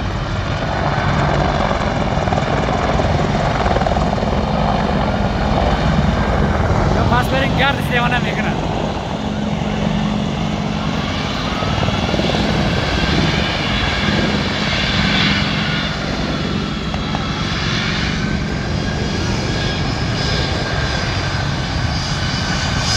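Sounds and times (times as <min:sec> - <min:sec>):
jet engines on the ground: 0:00.0 - 0:22.9.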